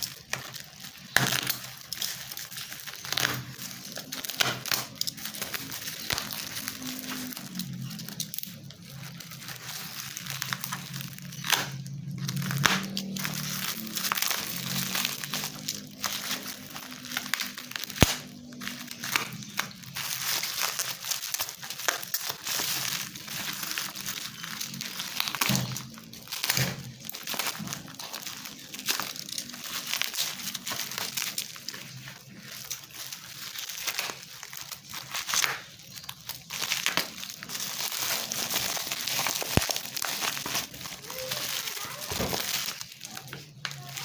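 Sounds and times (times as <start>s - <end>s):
plastic packaging crinkling: 0.0s - 44.0s.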